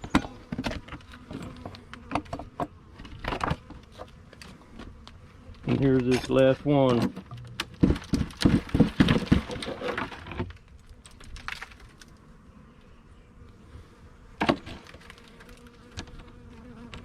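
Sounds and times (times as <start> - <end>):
clicks and knocks of wooden hive parts: 0.0 - 12.2, 14.4 - 17.0.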